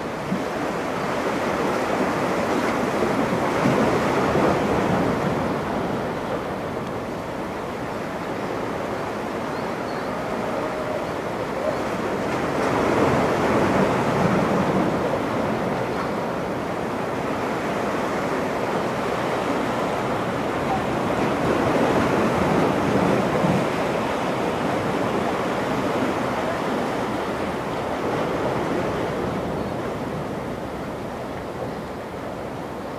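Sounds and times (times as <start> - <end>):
ocean surf breaking: 0.0 - 32.8.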